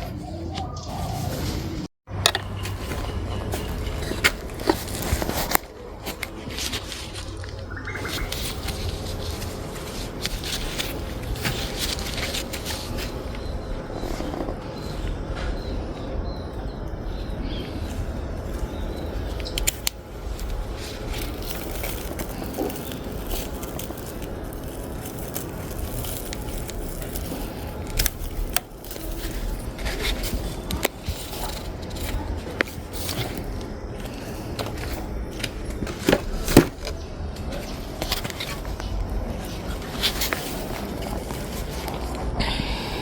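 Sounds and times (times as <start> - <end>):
rustling of plants: 0.0 - 43.0.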